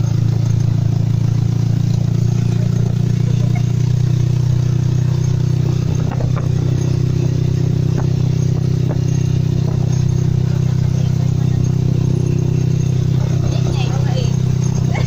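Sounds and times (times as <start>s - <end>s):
light rattles: 0.0s - 15.0s
motorcycle engine running: 0.0s - 15.0s.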